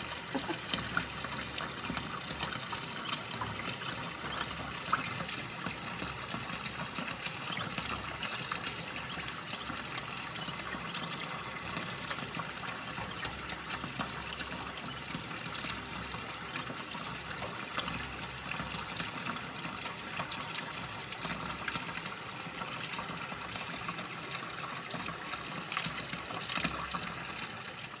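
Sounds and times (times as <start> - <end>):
faucet water splashing into sink: 0.0 - 28.0.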